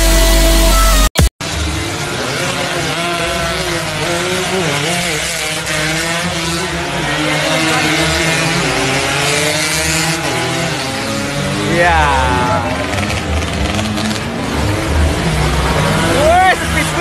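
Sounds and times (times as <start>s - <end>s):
motorcycle engines revving: 1.4s - 17.0s.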